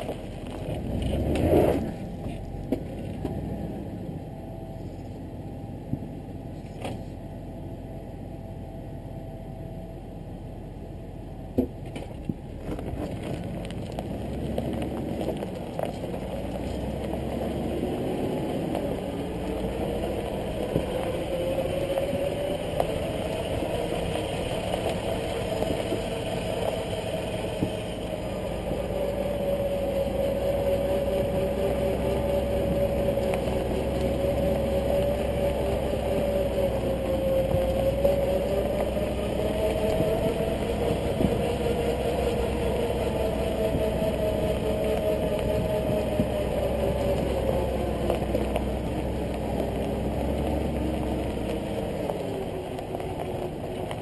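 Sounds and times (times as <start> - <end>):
truck rolling on rough track: 0.0 - 7.5, 9.2 - 54.0
truck engine running: 0.0 - 54.0.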